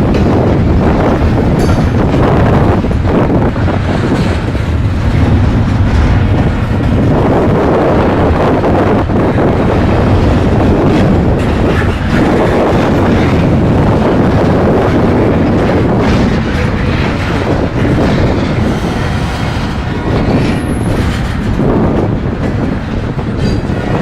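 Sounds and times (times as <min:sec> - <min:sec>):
freight train rumble: 0:00.0 - 0:24.0
wheels clattering over rail joints: 0:00.0 - 0:24.0.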